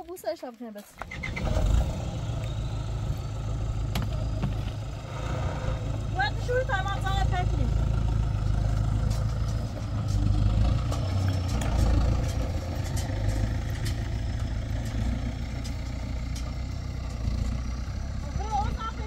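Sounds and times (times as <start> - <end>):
engine running low: 1.0 - 19.0.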